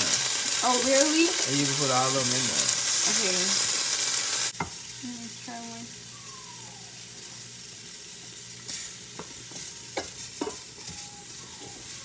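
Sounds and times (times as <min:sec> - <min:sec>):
shrimp sizzling in oil: 0:00.0 - 0:12.0.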